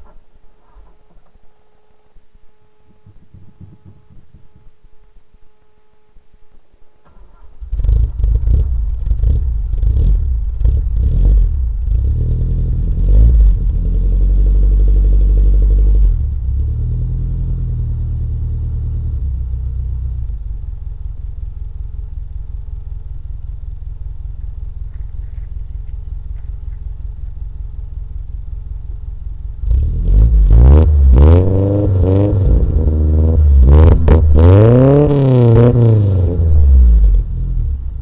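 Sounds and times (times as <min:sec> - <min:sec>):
car engine revving and idling: 0:07.1 - 0:38.0.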